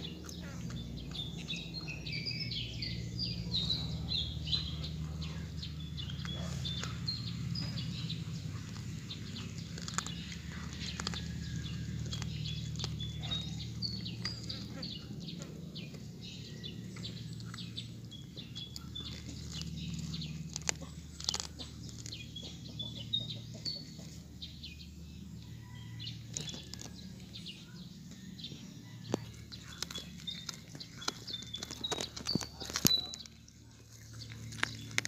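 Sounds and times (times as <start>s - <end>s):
cat chewing and crunching: 0.0s - 35.0s
small birds chirping: 0.0s - 35.0s.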